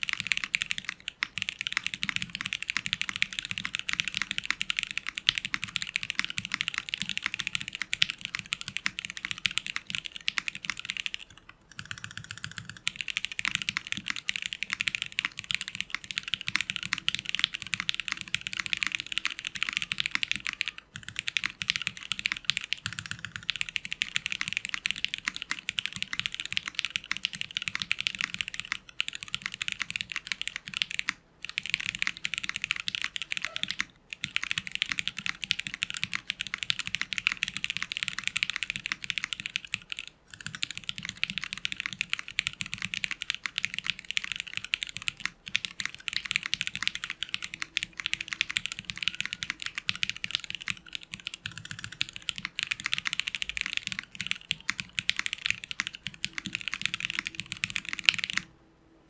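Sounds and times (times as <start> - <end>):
fast typing on mechanical keyboard: 0.0 - 58.5.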